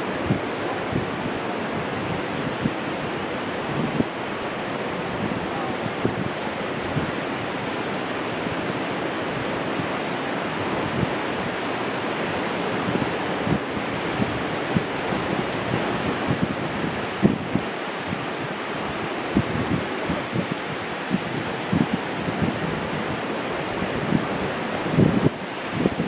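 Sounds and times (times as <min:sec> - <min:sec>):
ocean surf washing: 0:00.0 - 0:26.0
wind buffeting microphone: 0:00.0 - 0:26.0.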